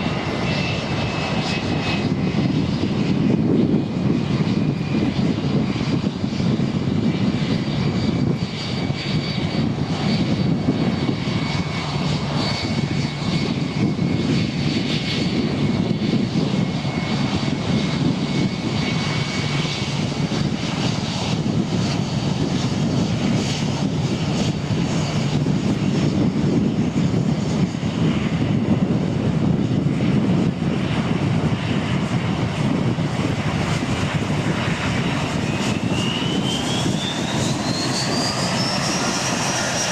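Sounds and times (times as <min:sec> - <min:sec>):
jet engines rumbling and whining: 0:00.0 - 0:39.9
jet engines spooling up: 0:00.0 - 0:39.9.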